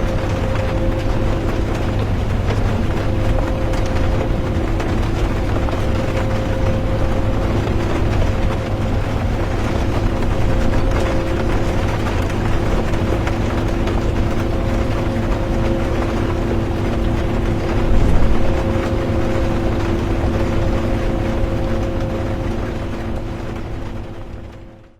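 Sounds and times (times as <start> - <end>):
bus engine and road rumble: 0.0 - 24.9
constant hum: 0.0 - 24.9.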